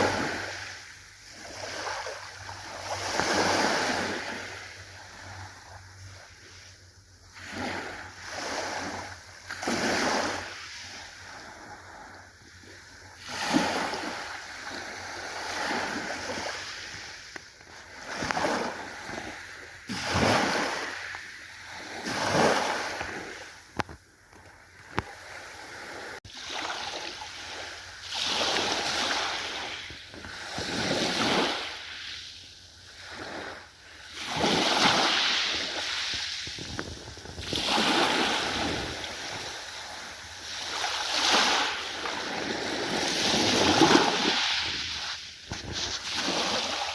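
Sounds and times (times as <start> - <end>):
ocean waves breaking on shore: 0.0 - 23.8, 24.6 - 46.9.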